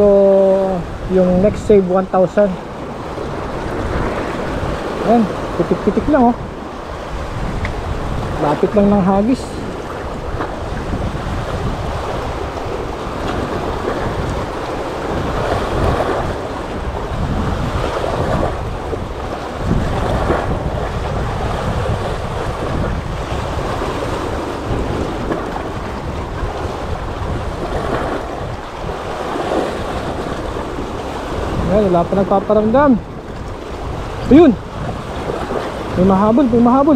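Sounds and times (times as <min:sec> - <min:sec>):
sea waves washing: 0:00.0 - 0:36.9
wind buffeting microphone: 0:00.0 - 0:36.9.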